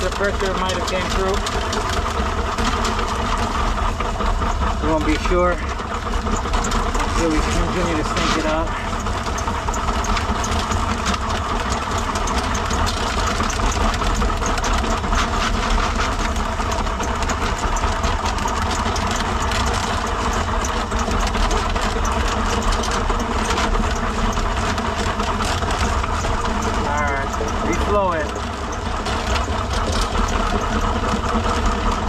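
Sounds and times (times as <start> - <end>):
cable clattering inside drain pipe: 0.0 - 32.0
drain cleaning machine running: 0.0 - 32.0.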